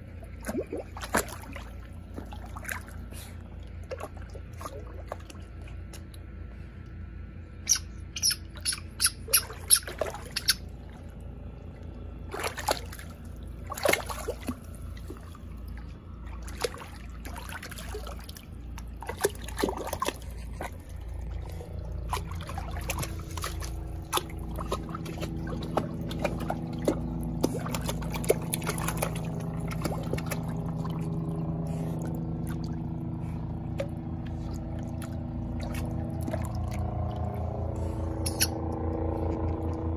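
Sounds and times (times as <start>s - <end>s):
water splashing in pool: 0.0s - 6.1s, 9.2s - 37.7s
low steady hum: 0.0s - 39.9s.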